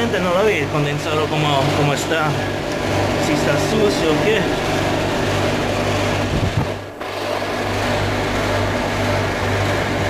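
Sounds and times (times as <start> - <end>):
compressor humming: 0.0 - 10.0
fan rushing air: 0.0 - 10.0.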